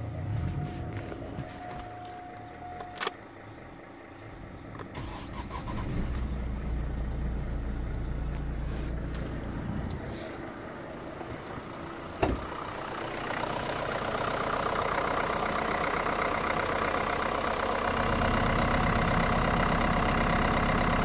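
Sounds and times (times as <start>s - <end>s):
diesel engine starting and running: 0.0s - 21.0s.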